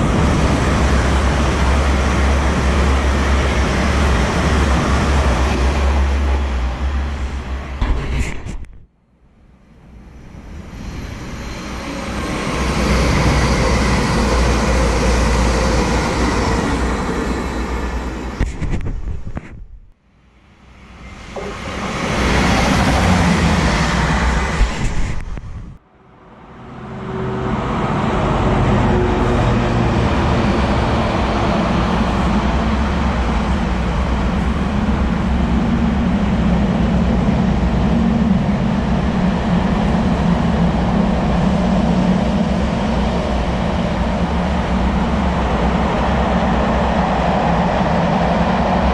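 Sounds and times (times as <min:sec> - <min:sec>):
passenger train passing: 0:00.0 - 0:08.0, 0:09.2 - 0:18.5, 0:20.1 - 0:48.9
freight train rolling past: 0:00.0 - 0:08.1, 0:09.4 - 0:18.4, 0:20.4 - 0:48.9.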